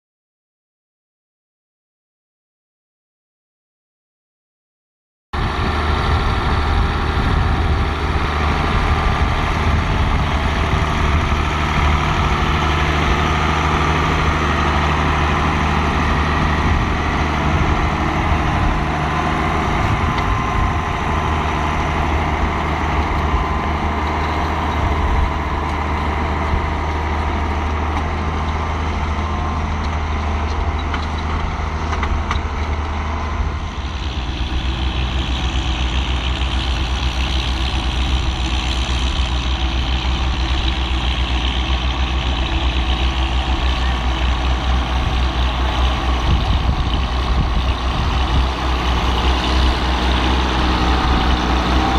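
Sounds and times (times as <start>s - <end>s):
tractor diesel engine running: 5.4s - 51.9s.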